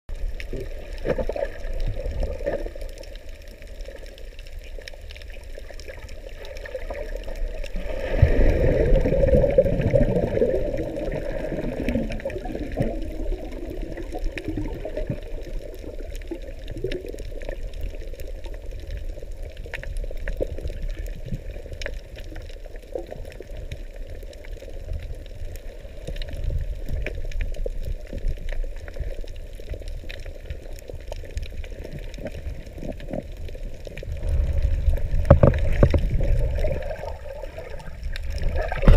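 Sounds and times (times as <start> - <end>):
underwater rushing and sloshing: 0.1 - 38.9.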